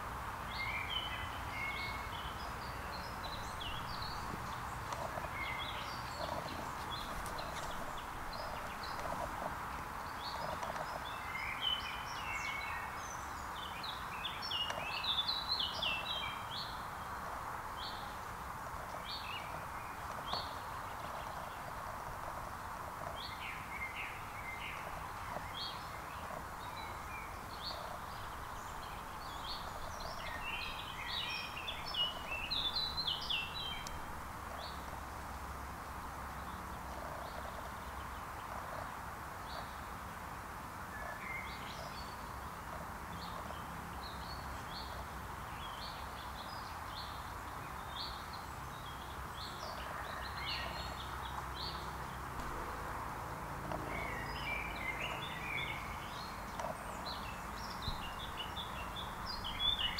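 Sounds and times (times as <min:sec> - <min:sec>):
birds chirping: 0:00.0 - 0:40.0, 0:40.9 - 0:59.9
steady background hiss: 0:00.0 - 0:59.9.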